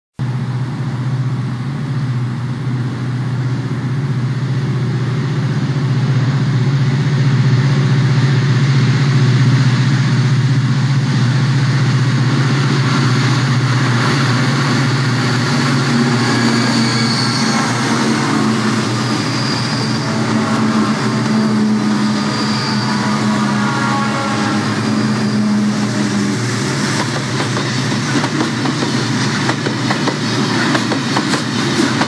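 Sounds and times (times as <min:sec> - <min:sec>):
diesel locomotive engines droning: 0:00.2 - 0:32.0.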